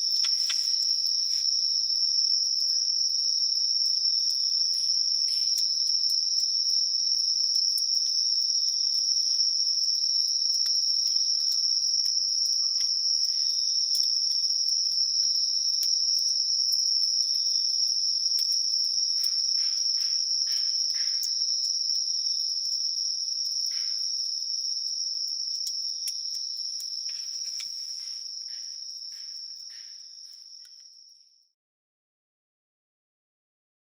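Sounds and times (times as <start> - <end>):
campfire crackling and popping: 0.0 - 24.3, 25.2 - 30.1
crickets chirring: 0.0 - 31.4.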